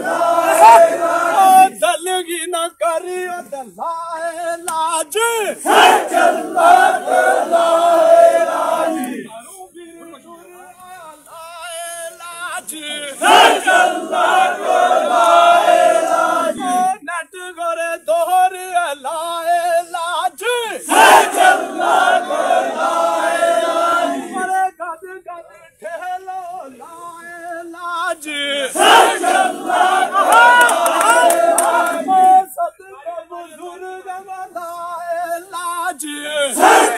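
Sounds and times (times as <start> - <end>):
crowd of men chanting: 0.0 - 10.3, 11.0 - 17.0, 17.6 - 36.9
single voice singing: 0.0 - 36.9.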